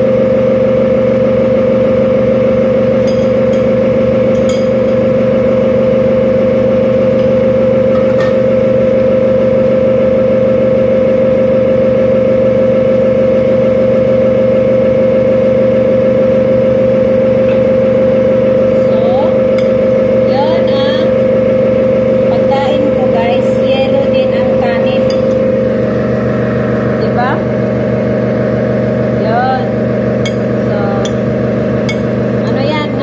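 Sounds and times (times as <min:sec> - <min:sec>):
extractor fan humming: 0:00.0 - 0:33.0.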